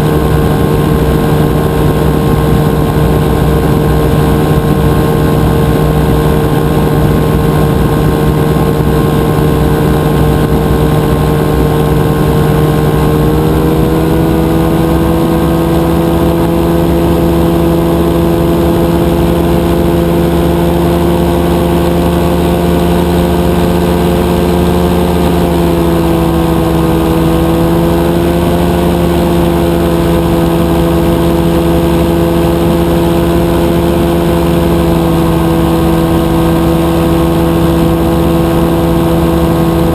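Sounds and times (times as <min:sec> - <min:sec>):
engine and propeller droning: 0:00.0 - 0:39.9.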